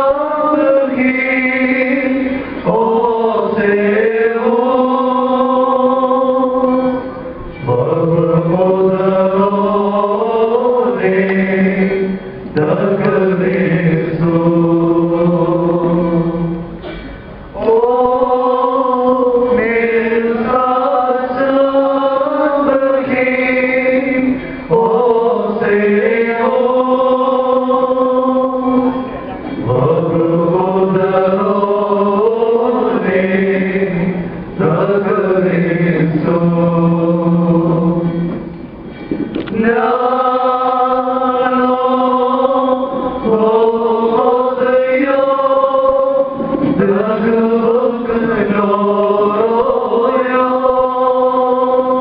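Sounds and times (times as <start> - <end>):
voices chanting a hymn: 0.0 - 52.0.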